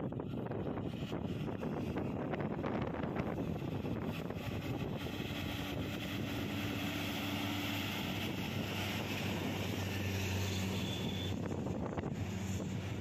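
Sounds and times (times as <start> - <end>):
diesel truck engine drone: 0.0 - 13.0.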